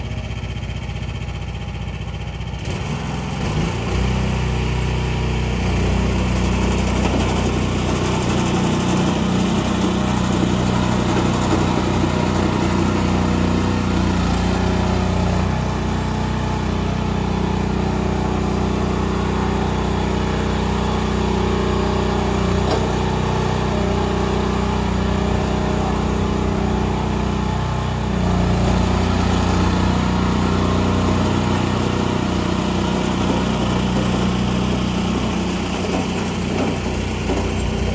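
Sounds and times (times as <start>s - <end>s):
small loader engine running: 0.0s - 37.9s.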